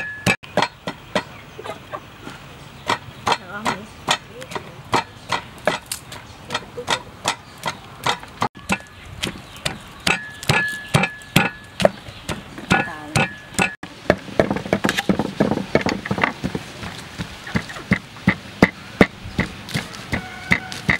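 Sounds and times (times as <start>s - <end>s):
pestle pounding in wooden mortar: 0.0s - 1.4s, 2.8s - 20.9s.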